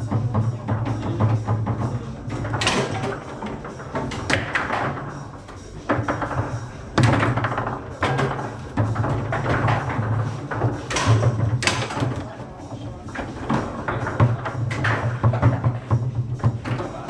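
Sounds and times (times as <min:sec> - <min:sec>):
rods knocking: 0:00.2 - 0:17.0.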